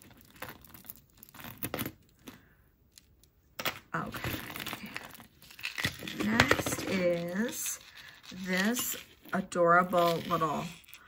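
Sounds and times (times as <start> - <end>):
packaging crinkling and rustling: 0.0 - 2.5, 4.0 - 11.0.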